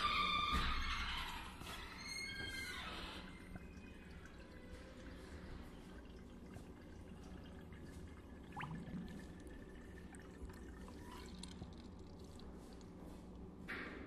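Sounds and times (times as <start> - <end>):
low steady hum: 0.0 - 14.0
liquid dripping and trickling: 0.7 - 13.6.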